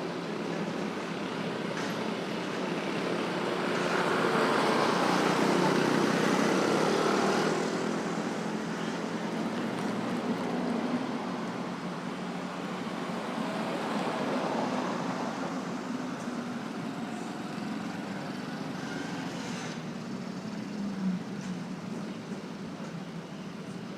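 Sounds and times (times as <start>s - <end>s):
road traffic engines: 0.0s - 23.9s
tyres on road: 0.0s - 23.9s.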